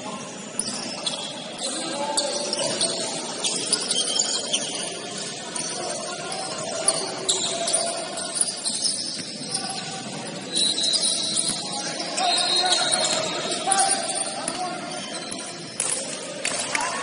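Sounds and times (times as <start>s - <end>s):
murmur of players' voices: 0.0s - 17.0s
sneakers squeaking on court: 0.6s - 16.0s.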